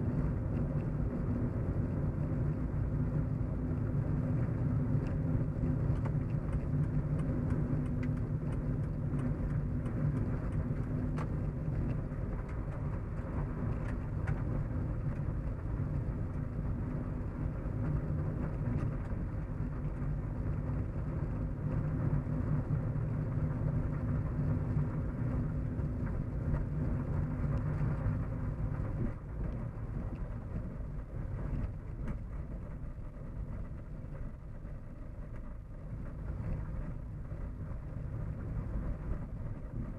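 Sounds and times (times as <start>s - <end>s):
car interior road rumble: 0.0s - 39.9s.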